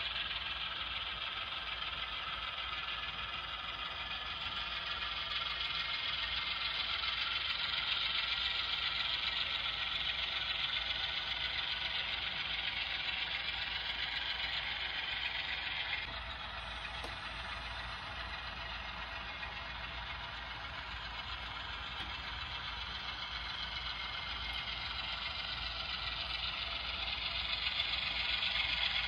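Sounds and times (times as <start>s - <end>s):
model train rolling on track: 0.0s - 29.0s.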